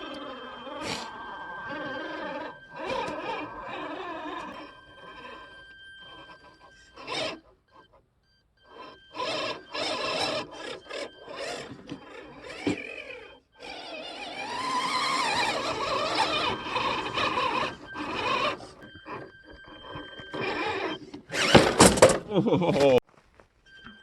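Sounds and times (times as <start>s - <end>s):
electric motor whining: 0.0s - 22.2s.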